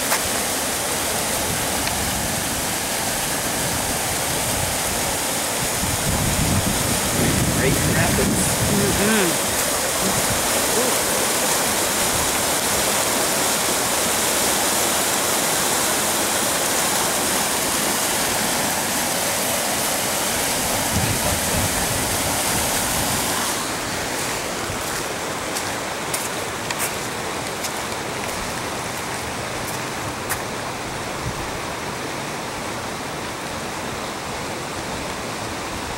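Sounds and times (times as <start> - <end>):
floodwater rushing roar: 0.0 - 35.9.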